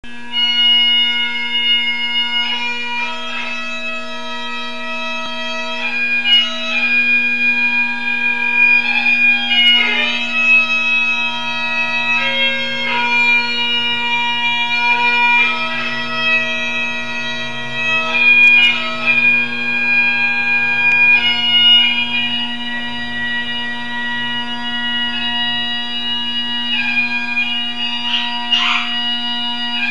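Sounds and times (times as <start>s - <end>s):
bagpipe melody over drone: 0.1s - 29.9s.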